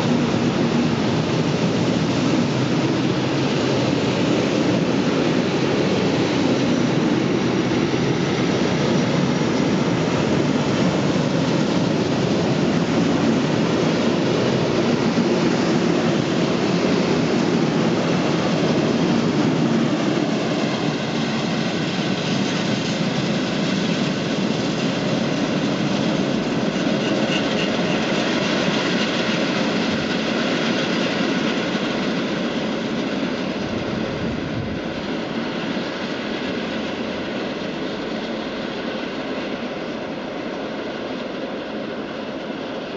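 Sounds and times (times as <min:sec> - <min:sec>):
freight train rolling on rails: 0:00.0 - 0:42.9.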